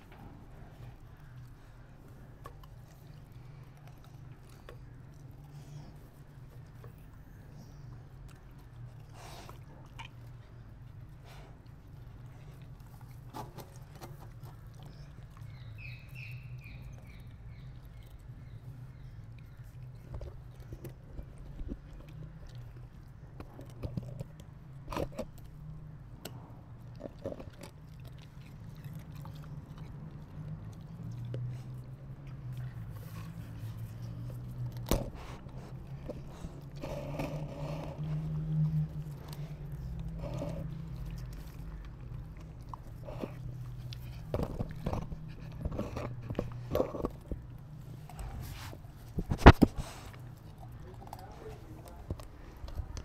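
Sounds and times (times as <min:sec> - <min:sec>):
puppy crunching a carrot: 0:00.0 - 0:53.0.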